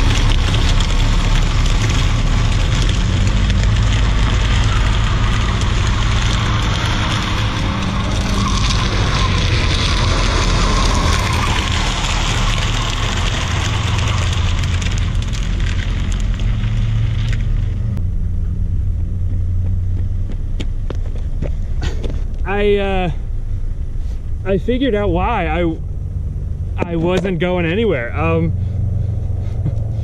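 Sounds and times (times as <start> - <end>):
car engine under throttle: 0.0 - 30.0.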